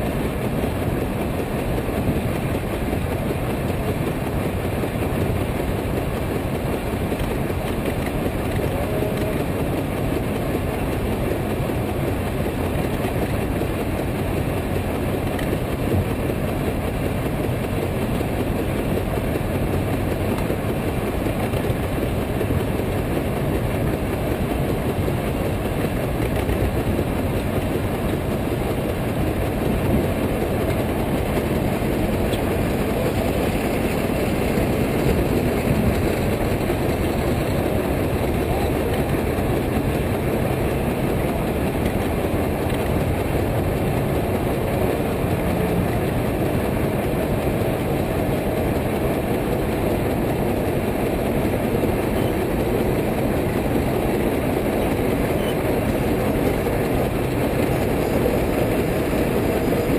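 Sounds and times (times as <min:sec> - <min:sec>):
steam engine exhaust beating: 0:00.0 - 0:59.9.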